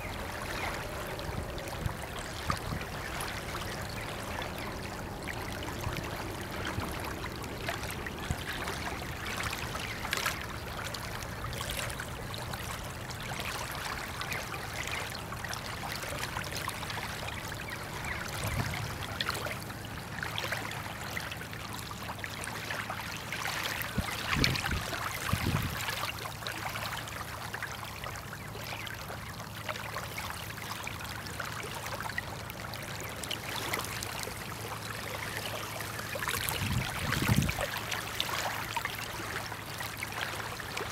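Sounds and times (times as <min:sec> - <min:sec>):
small waves lapping: 0:00.0 - 0:40.9.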